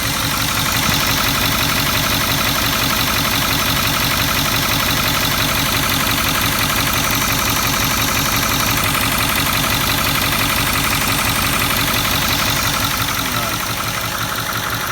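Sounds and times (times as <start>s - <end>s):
diesel engine idling with valve clatter: 0.0s - 14.9s.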